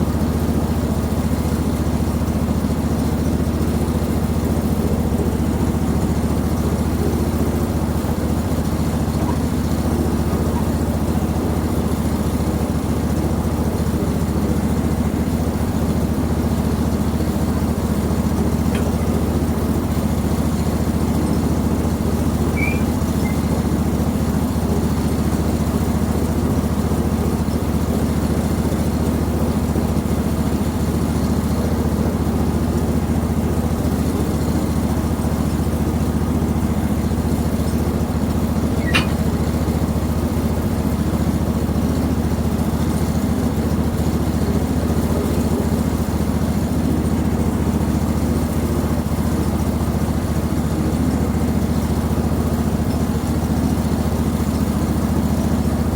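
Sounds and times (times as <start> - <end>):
small gas engine running: 0.0 - 55.9.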